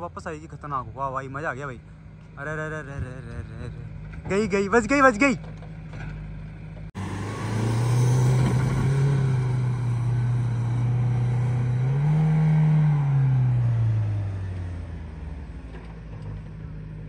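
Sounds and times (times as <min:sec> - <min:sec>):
engine pulling hard under load: 0:00.8 - 0:17.0.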